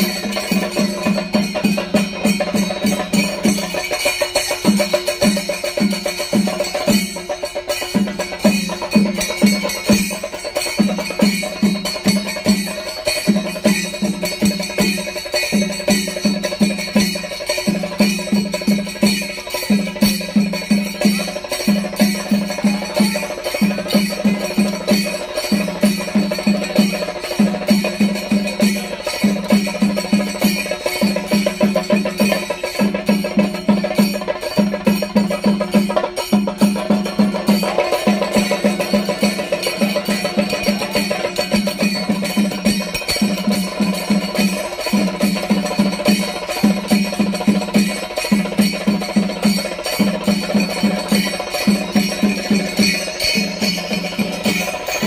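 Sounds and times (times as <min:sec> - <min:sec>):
continuous high ringing: 0:00.0 - 0:55.0
pitched drum beats: 0:00.0 - 0:55.0
rapid clatter of drum strokes: 0:00.0 - 0:55.0.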